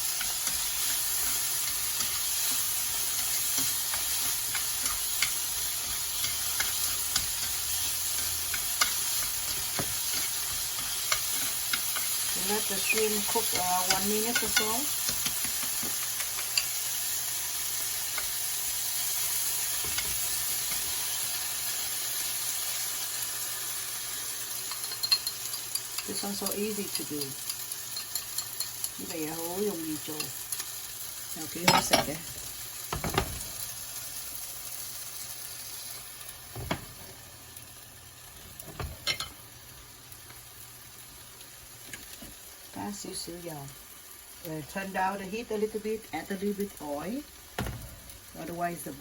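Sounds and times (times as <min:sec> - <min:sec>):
shrimp sizzling in oil: 0:00.0 - 0:49.0.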